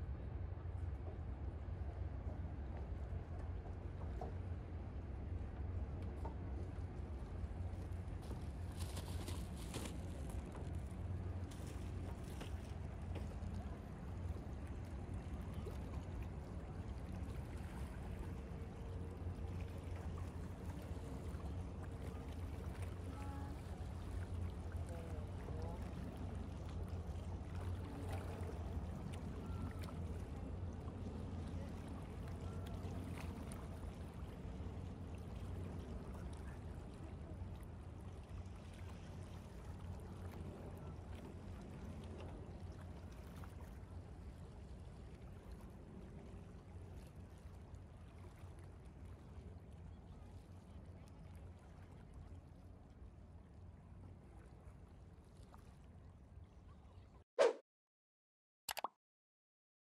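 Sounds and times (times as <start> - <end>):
low city rumble: 0.0 - 57.2.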